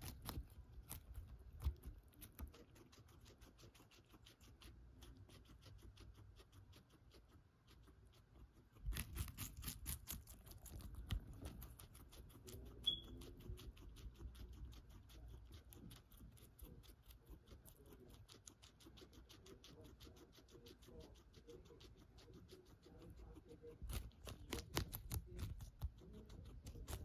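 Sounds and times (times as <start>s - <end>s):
guinea pig crunching celery: 0.0s - 27.0s.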